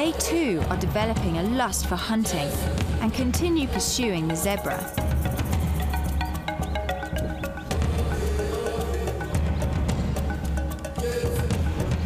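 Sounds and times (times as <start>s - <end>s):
soundtrack music: 0.0s - 12.0s.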